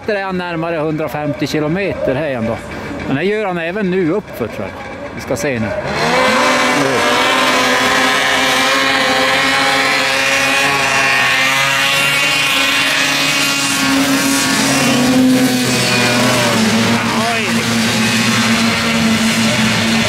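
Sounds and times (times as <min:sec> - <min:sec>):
snowmobile engines at high revs: 0:00.5 - 0:20.0.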